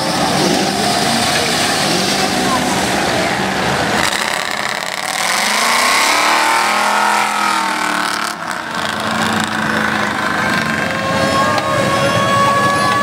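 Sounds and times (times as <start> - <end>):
engines running steadily: 0.0 - 13.0
truck engine revving: 0.0 - 13.0.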